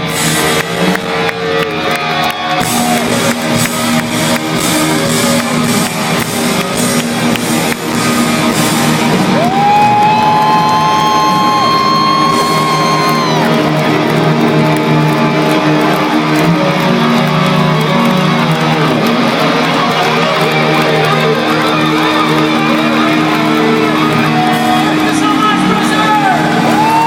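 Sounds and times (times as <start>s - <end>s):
distorted electric guitars: 0.0s - 27.0s
hard rock band playing live: 0.0s - 27.0s.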